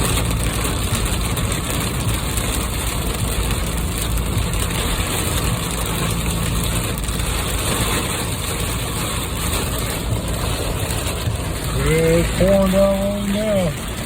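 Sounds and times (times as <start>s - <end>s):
car engine running: 0.0s - 14.0s
rain on car body: 0.0s - 14.0s
tyres on wet road: 0.0s - 14.0s.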